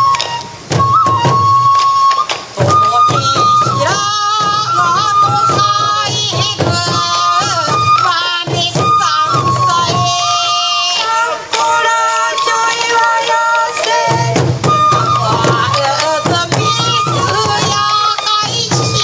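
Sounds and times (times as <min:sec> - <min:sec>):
bamboo flute melody: 0:00.0 - 0:19.0
taiko drum strokes: 0:00.0 - 0:19.0
people singing: 0:02.6 - 0:19.0.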